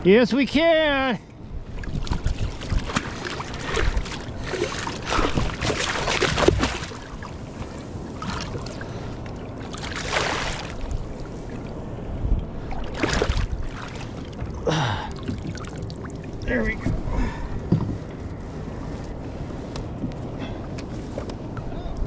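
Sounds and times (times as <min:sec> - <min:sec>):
water splashing and sloshing: 0:00.6 - 0:22.0.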